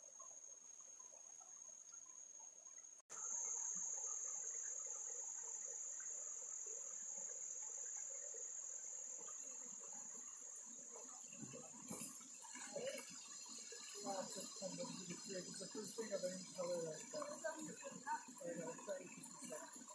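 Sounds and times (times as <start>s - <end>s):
insects trilling: 0.0s - 19.9s.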